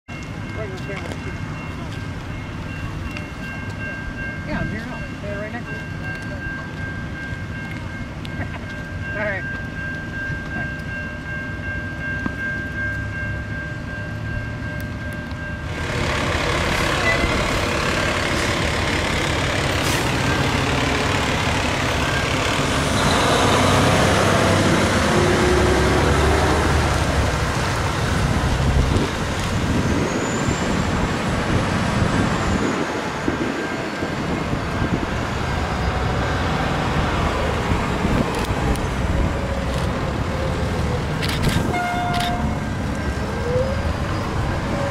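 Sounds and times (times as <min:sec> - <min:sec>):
tyre and traffic noise: 0:00.1 - 0:44.9
fire trucks diesel engines: 0:00.2 - 0:44.9.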